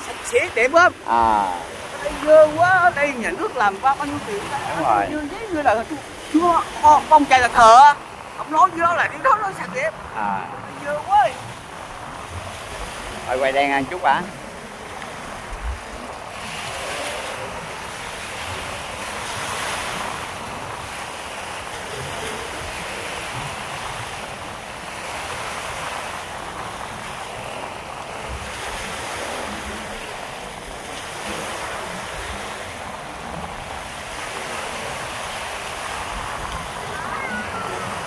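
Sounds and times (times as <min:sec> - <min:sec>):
small waves breaking on beach: 0:00.0 - 0:38.0
wind buffeting microphone: 0:00.0 - 0:38.0.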